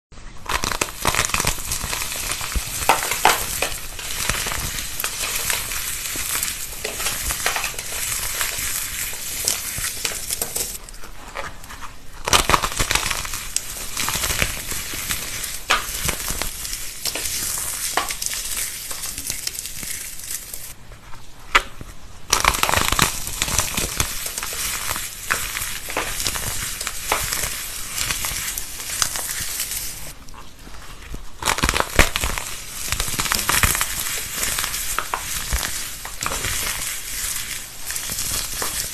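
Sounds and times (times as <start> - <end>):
brittle material crunching: 0.4 - 20.8, 22.3 - 38.9.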